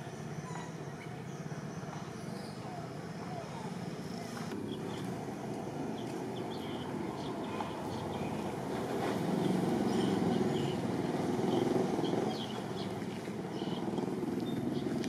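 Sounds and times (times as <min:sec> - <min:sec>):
motor vehicle passing: 0:02.7 - 0:15.0.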